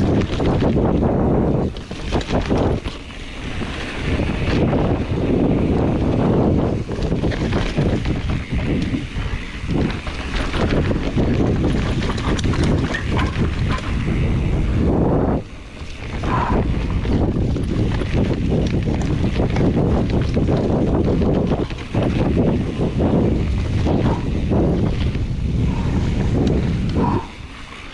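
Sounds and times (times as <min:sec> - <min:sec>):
bike clicking and rattling: 0:00.0 - 0:27.9
tyres rumbling on dirt trail: 0:00.0 - 0:27.9
wind buffeting microphone: 0:00.0 - 0:27.9.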